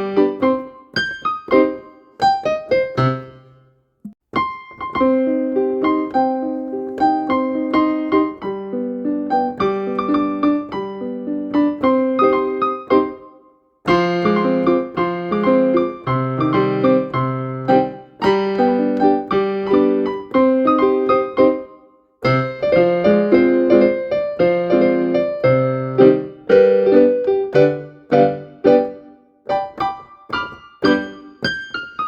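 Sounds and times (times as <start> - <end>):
gentle piano melody: 0.0 - 3.7, 4.3 - 32.0.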